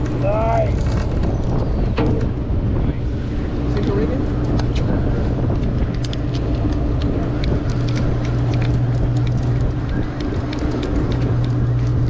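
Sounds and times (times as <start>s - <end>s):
boat engine droning: 0.0s - 12.0s
wind noise on microphone: 0.0s - 12.0s.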